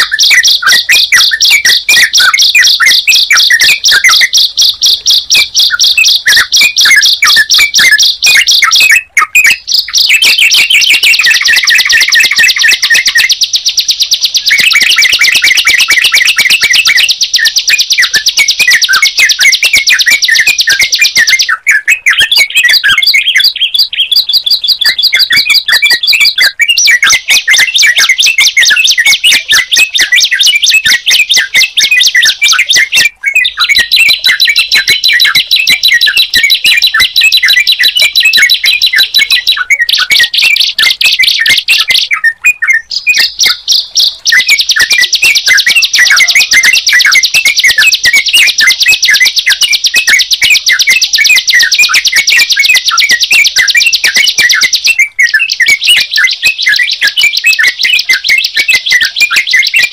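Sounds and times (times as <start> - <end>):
rapid high bird chirping: 0.0 - 59.9.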